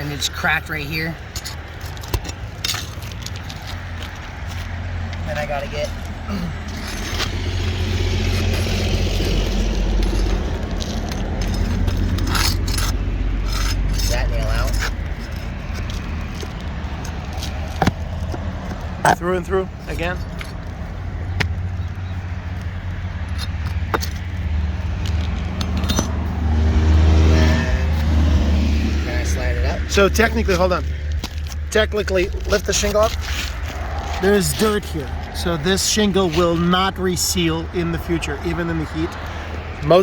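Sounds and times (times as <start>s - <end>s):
metal tool scraping on shingles: 0.0s - 21.6s, 22.5s - 26.4s, 30.1s - 37.9s.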